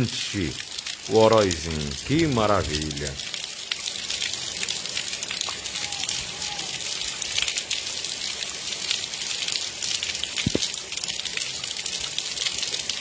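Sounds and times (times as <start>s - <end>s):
light rain on wet pavement: 0.0s - 13.0s.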